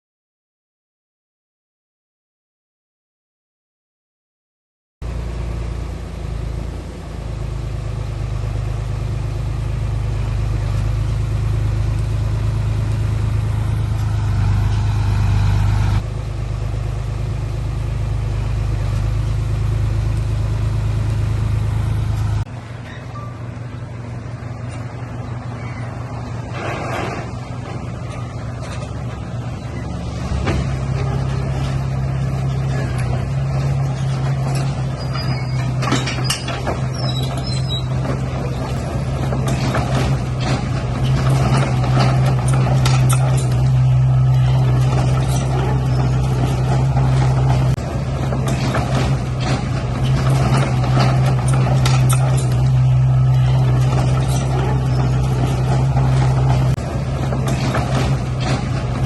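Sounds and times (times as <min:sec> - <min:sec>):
diesel engine droning: 0:05.0 - 0:59.0.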